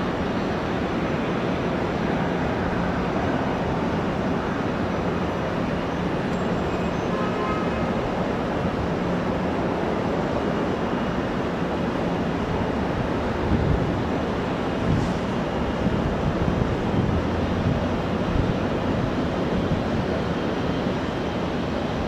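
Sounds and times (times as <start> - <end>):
faint turbine whine: 0.0 - 22.0
jet engine noise: 0.0 - 22.0.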